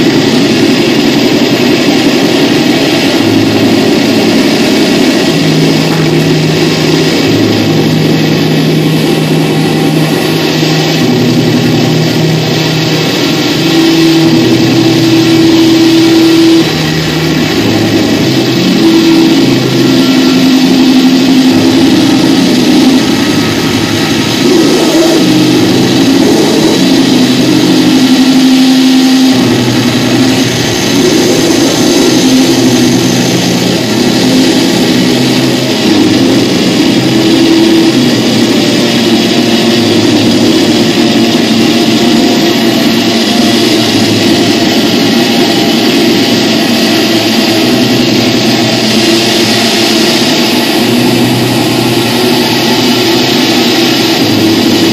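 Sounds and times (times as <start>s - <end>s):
noise drone music: 0.0s - 54.9s.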